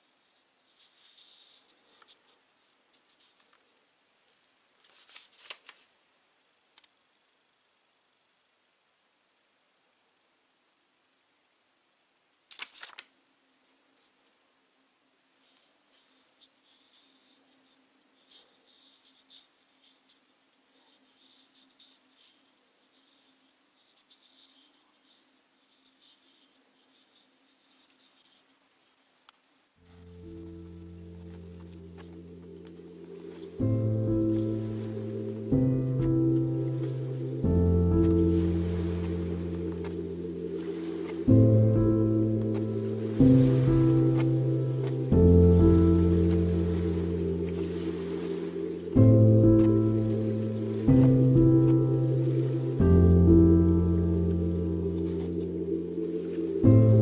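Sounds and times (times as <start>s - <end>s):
faint scratchy rustling: 0.0s - 6.0s, 12.5s - 14.5s, 15.2s - 57.0s
faint steady hum: 0.0s - 57.0s.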